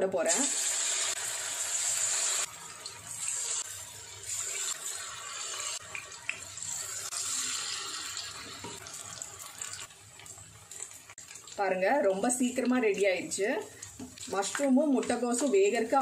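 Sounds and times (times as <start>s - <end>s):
batter sizzling in hot oil: 0.2s - 16.0s.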